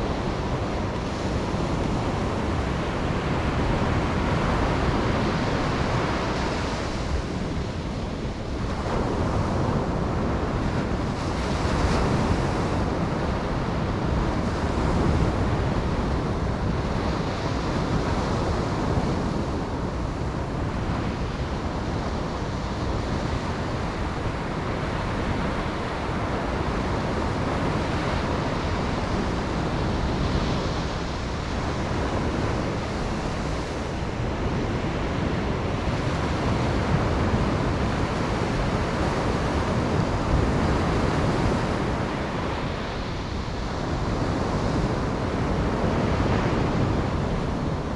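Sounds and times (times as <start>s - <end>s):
ocean waves breaking: 0.0s - 47.9s
wind rumble on microphone: 0.0s - 47.9s.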